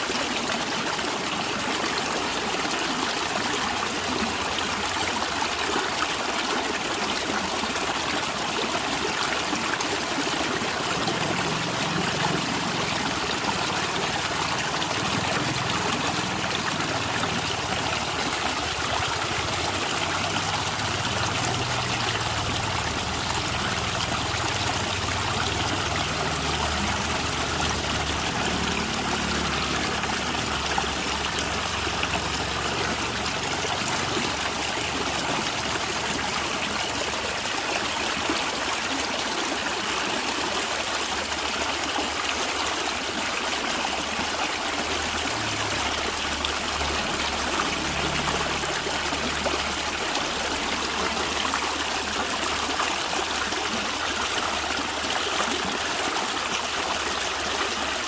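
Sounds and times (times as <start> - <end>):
stream flowing and gurgling: 0.0 - 58.0.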